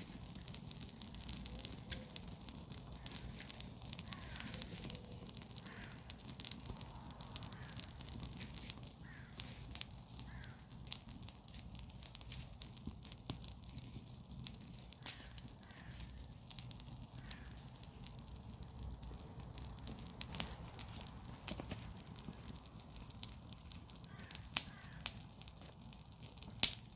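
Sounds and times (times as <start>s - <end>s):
fire crackling and popping: 0.0s - 26.9s.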